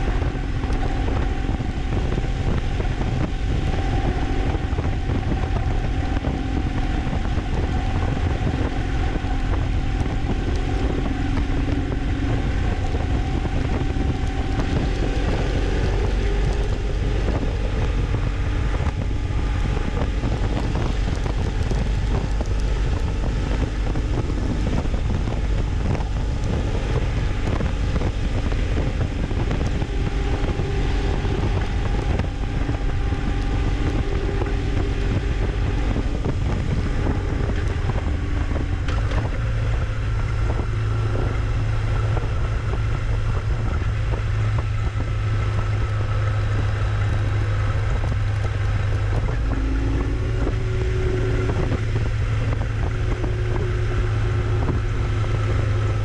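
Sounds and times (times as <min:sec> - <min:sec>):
vehicle engine running: 0:00.0 - 0:56.0
wind buffeting microphone: 0:00.0 - 0:56.0.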